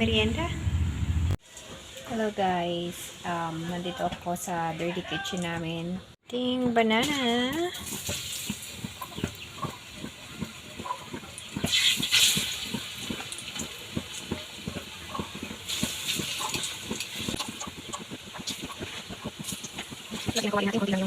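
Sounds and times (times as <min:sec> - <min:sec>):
loud sizzle: 0:00.0 - 0:04.6, 0:06.9 - 0:21.0
oil frying with crackles: 0:01.3 - 0:05.6, 0:06.4 - 0:21.0.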